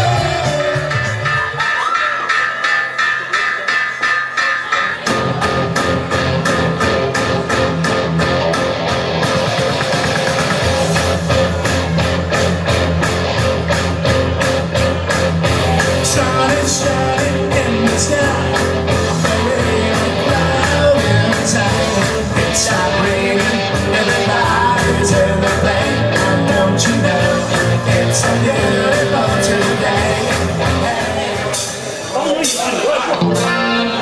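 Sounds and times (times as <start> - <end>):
steady drum beat: 0.0 - 33.6
guitar: 0.0 - 34.0
live rock music: 0.0 - 34.0.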